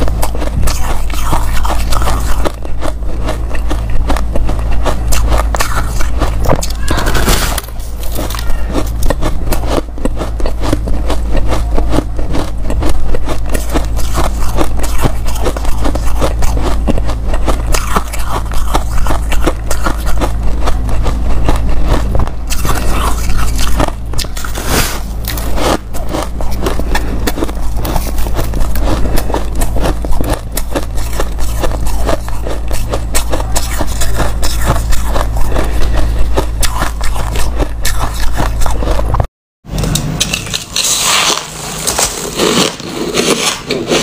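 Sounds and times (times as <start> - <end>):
ice crunching being chewed: 0.0 - 39.3, 40.2 - 44.0.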